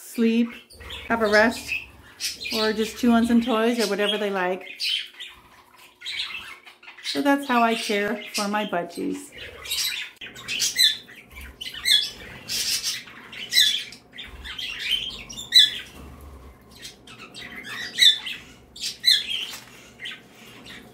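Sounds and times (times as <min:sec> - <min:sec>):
budgerigars calling: 0:00.4 - 0:20.9.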